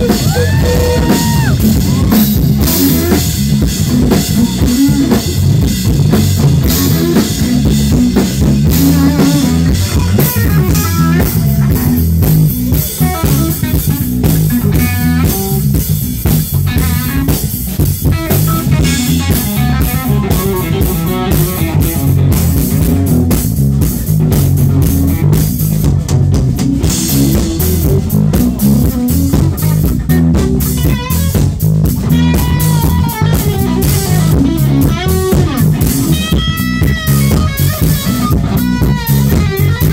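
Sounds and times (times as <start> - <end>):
bass guitar: 0.0 - 39.9
drum kit: 0.0 - 39.9
electric guitar bending notes: 0.0 - 39.9.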